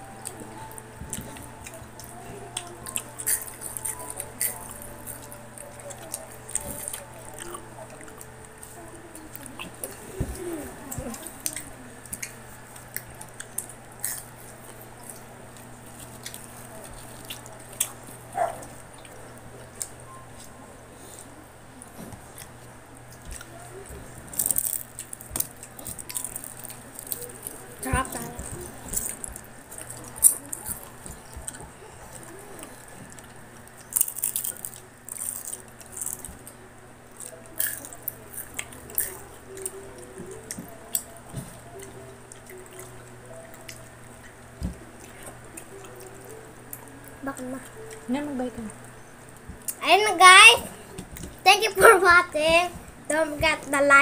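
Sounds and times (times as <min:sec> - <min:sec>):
crunchy chewing: 0:00.0 - 0:48.0.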